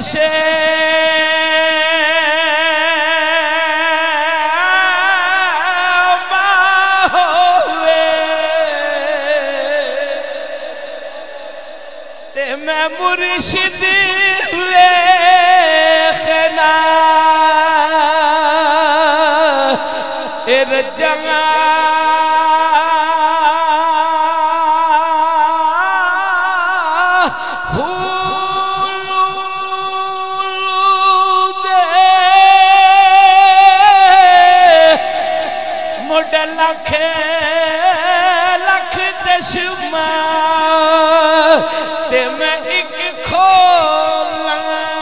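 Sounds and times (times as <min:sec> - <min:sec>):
man chanting with vibrato: 0:00.0 - 0:45.0
man singing devotional verse: 0:00.0 - 0:45.0.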